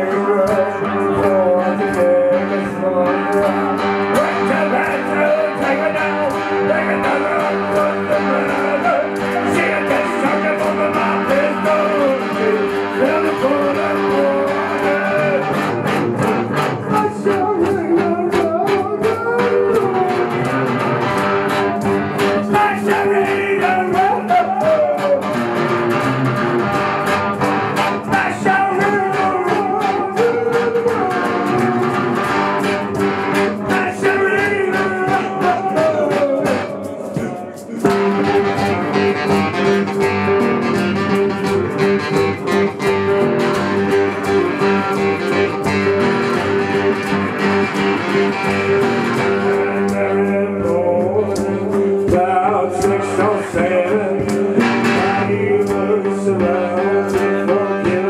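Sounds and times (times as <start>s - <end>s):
acoustic guitar strumming: 0.0s - 58.0s
electric guitar melody bending: 0.0s - 58.0s.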